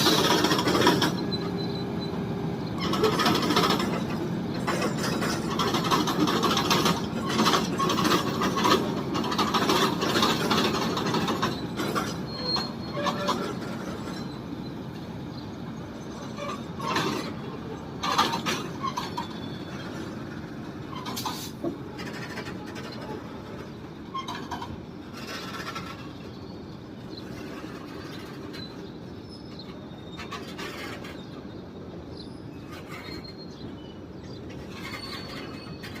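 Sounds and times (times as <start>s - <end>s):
freight train rumble: 0.0s - 36.0s
wheel squeals and clanks: 0.0s - 36.0s.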